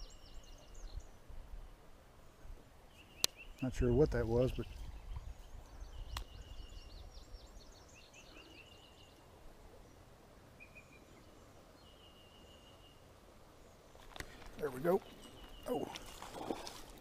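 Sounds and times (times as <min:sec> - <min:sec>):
birds chirping: 0:00.0 - 0:01.3, 0:02.2 - 0:17.0.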